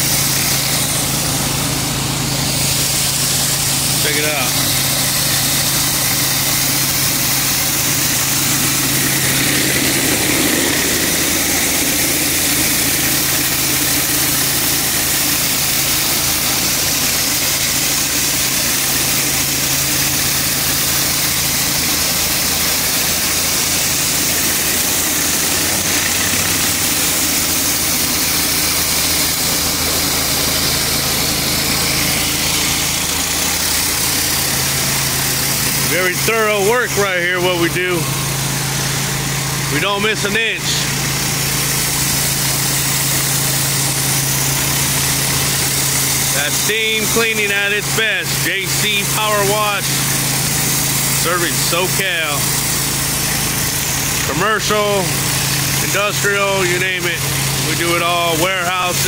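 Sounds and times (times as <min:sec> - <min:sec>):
pressure washer engine running: 0:00.0 - 0:59.0
water spraying onto concrete: 0:00.0 - 0:59.0.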